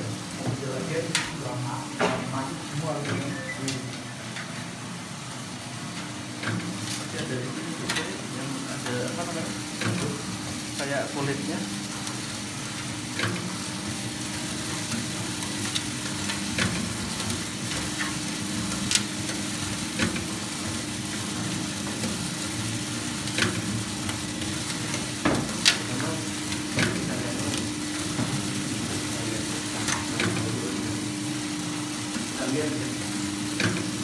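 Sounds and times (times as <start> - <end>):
coffee beans rustling: 0.0 - 34.0.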